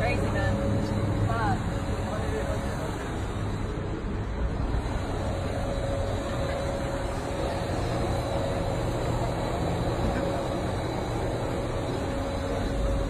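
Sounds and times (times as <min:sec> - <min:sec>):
street and vehicle noise: 0:00.0 - 0:13.0.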